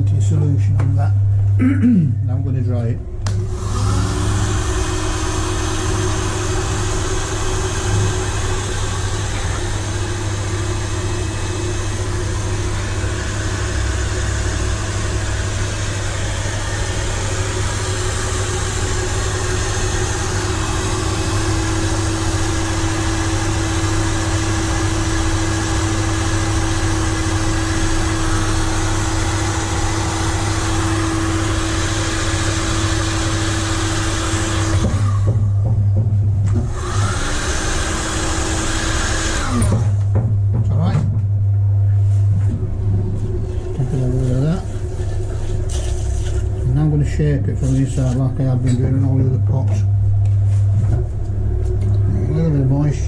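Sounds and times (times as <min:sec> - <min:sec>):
heat gun fan whining: 0:00.0 - 0:53.0.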